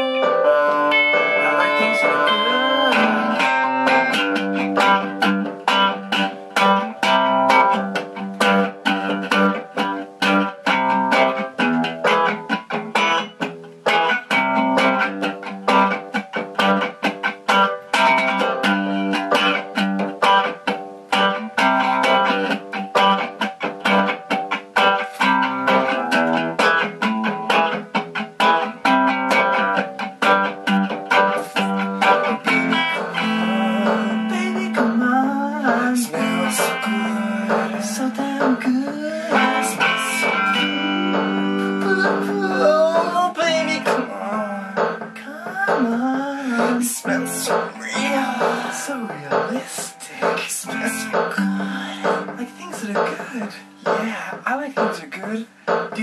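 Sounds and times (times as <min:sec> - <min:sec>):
electric guitar single notes: 0:00.0 - 0:56.0.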